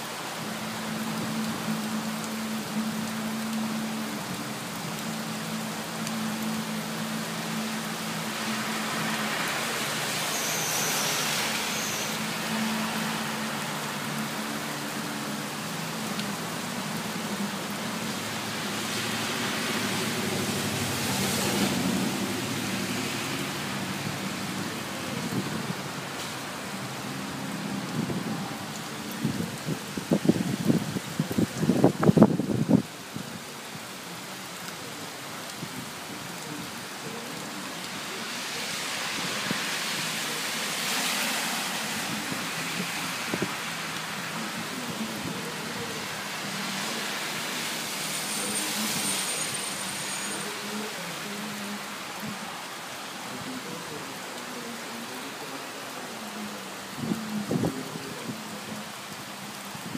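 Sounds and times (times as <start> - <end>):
heavy rain on street: 0.0 - 59.9
vehicles hissing past on wet road: 0.1 - 29.1, 33.7 - 59.9.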